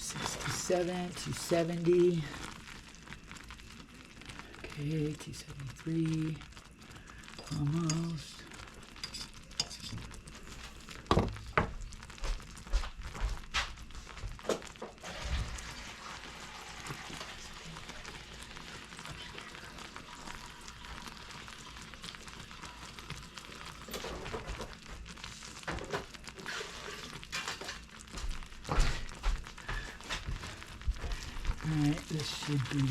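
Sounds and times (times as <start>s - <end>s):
syrup boiling in a pan: 0.0s - 32.9s.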